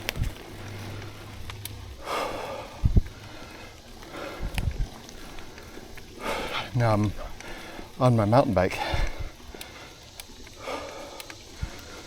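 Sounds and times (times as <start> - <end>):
person breathing hard: 0.6 - 8.0, 8.7 - 12.0.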